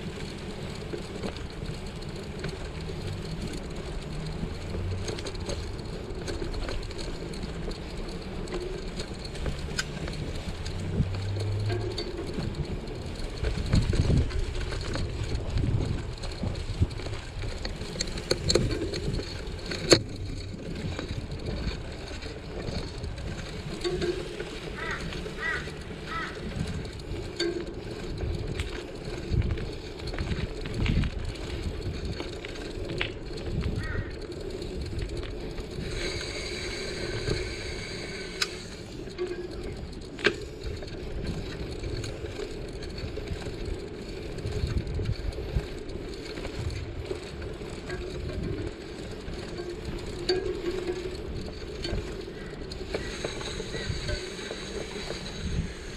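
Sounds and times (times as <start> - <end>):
bicycle knocks and rattles: 0.0 - 55.9
bicycle rolling rumble: 0.0 - 55.9.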